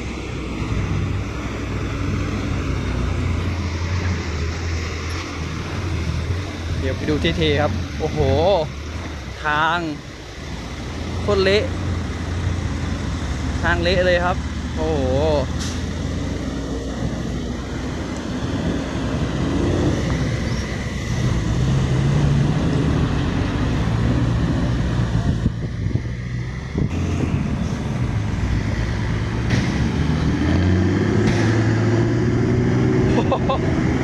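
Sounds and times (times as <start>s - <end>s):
truck diesel engine under load: 0.0s - 34.0s.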